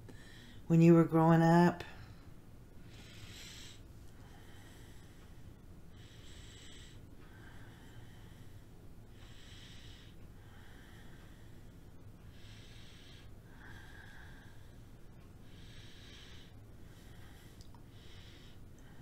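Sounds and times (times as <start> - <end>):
person breathing slowly: 0.0 - 0.7, 2.0 - 19.0
low room hum: 0.0 - 19.0.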